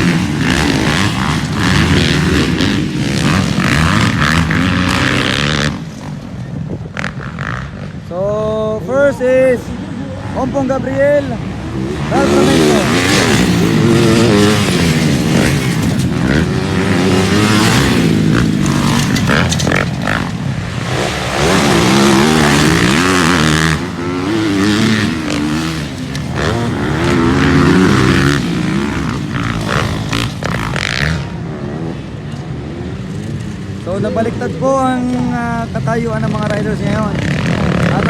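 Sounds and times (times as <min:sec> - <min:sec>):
motocross bikes revving: 0:00.0 - 0:38.0.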